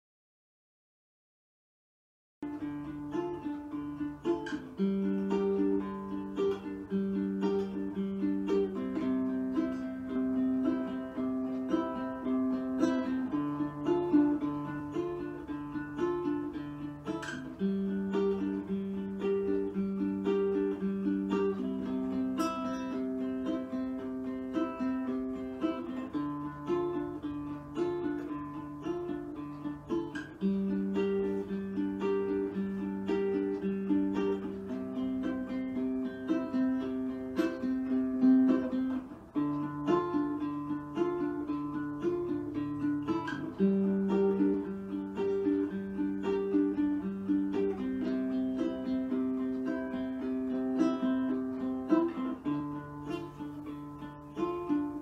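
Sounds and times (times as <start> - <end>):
light plucked string tune: 2.4 - 55.0.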